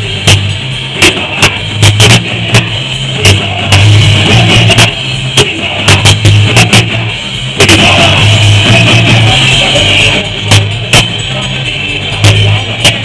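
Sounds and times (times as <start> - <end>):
punk rock band playing loud: 0.0 - 13.0
snare and cymbal hits: 0.0 - 13.0.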